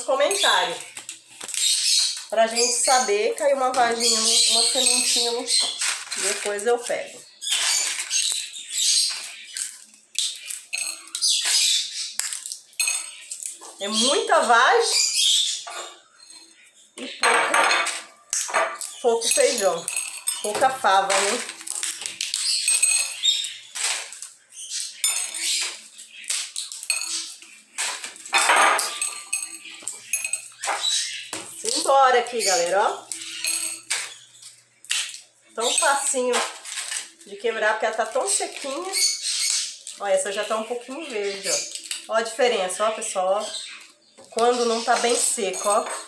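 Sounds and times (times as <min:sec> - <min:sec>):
dry bean pods crackling: 0:00.0 - 0:15.1, 0:17.9 - 0:46.0.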